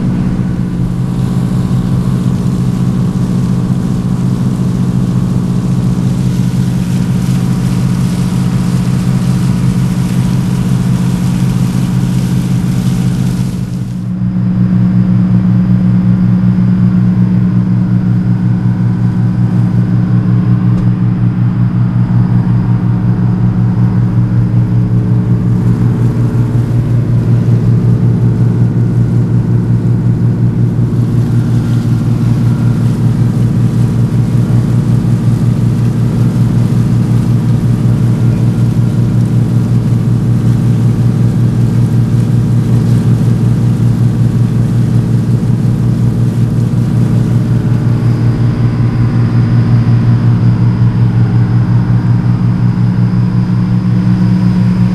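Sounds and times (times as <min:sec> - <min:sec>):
ferry engine droning: 0:00.0 - 0:54.9.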